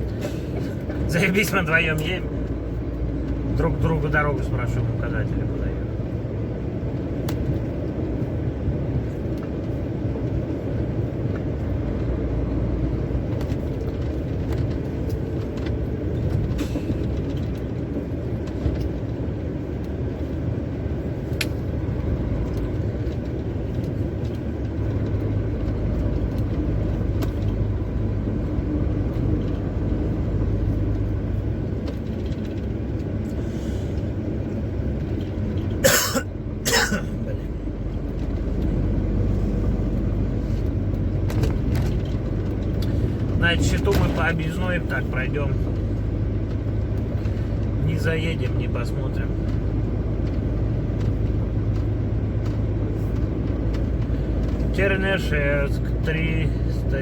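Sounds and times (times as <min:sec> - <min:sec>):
road rumble: 0:00.0 - 0:57.0
truck engine drone: 0:00.0 - 0:57.0.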